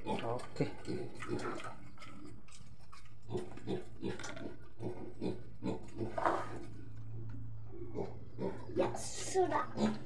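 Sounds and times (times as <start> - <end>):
pig grunting: 0.0 - 2.4, 3.3 - 6.8, 7.8 - 10.0.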